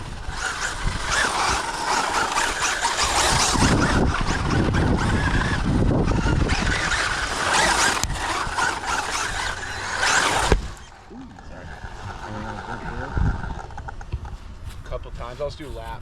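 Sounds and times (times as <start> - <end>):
electric motor whining: 0.0 - 14.8
tyres scrabbling on dirt: 0.0 - 16.0.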